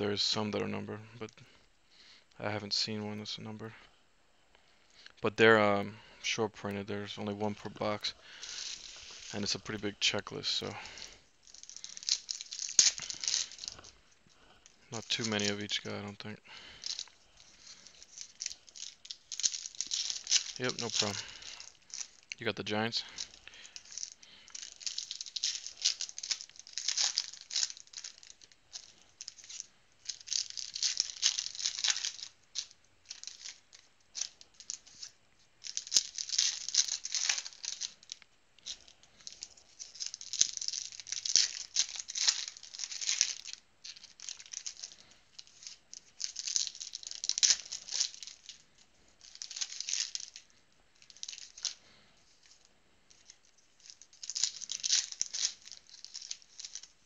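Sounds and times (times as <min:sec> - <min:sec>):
foil wrappers crinkling and tearing: 0:07.1 - 0:57.0
cards shuffling: 0:07.5 - 0:57.0.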